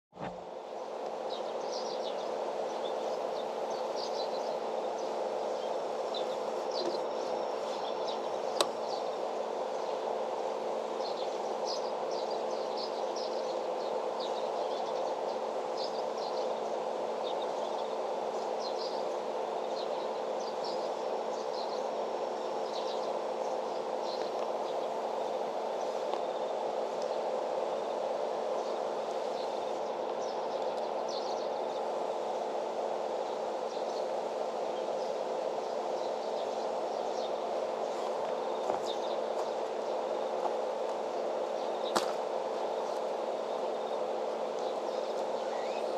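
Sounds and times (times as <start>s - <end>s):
steady low hum: 0.1s - 45.9s.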